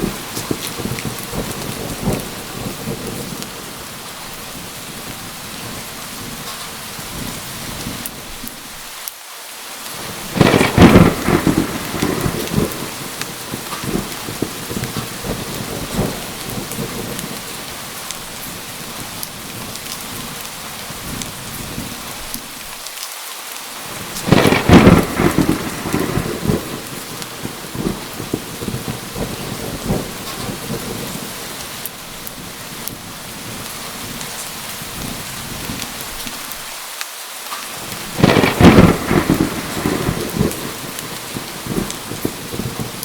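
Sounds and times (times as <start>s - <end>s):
thunderclaps: 0.0s - 8.4s, 10.0s - 22.5s, 23.9s - 36.4s, 37.8s - 43.0s
steady rain: 0.0s - 43.0s.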